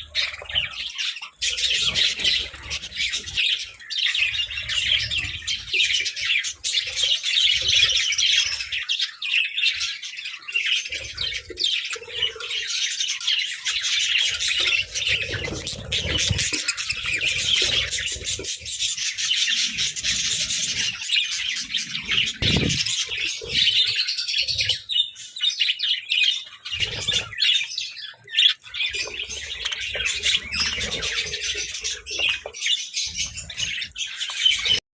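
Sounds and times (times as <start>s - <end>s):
budgerigars chattering: 0.0s - 34.8s.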